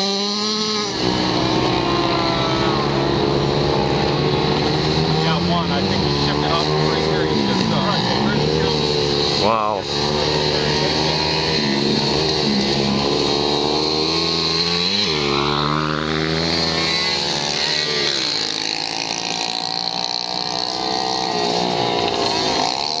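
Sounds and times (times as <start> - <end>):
dirt bike engines revving: 0.0 - 23.0
dirt bike passing close: 0.0 - 23.0.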